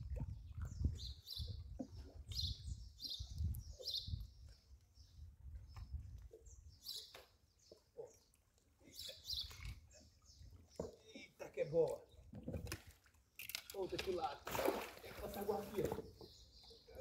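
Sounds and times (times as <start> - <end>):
small birds chirping: 0.2 - 12.3, 15.2 - 17.0.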